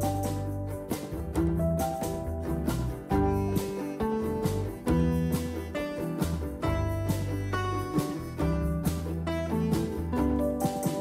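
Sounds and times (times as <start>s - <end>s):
bass line: 0.0s - 11.0s
plucked guitar: 0.0s - 11.0s.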